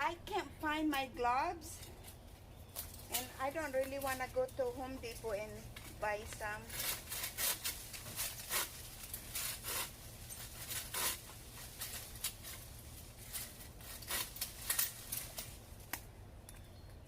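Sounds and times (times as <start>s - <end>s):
rustling and scraping handling noise: 1.7s - 15.9s.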